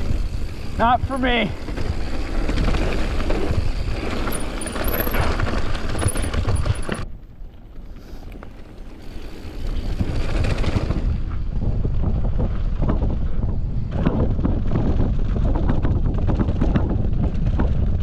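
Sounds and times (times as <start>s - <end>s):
wind on microphone: 0.0s - 7.4s, 9.0s - 18.0s
bike rattling over bumps: 0.0s - 18.0s
bike tyres rumbling on dirt: 0.0s - 18.0s.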